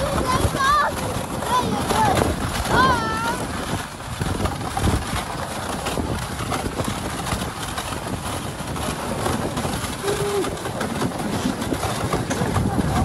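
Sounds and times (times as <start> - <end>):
sled runners scraping on snow: 0.0 - 13.0
wind on microphone: 0.0 - 13.0.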